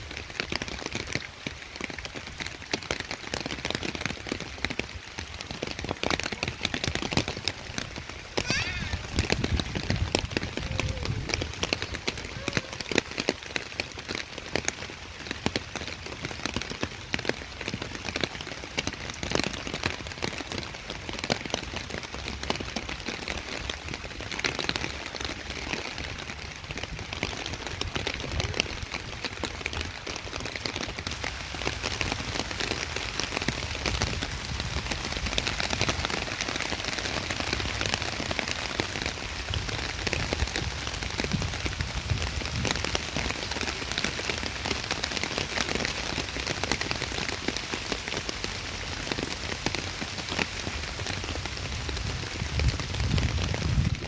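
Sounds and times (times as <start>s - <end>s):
steady rain on wet path: 0.0s - 54.0s.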